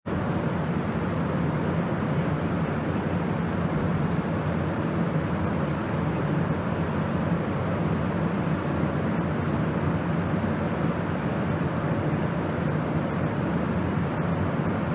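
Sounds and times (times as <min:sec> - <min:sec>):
fan heater running: 0:00.0 - 0:14.9.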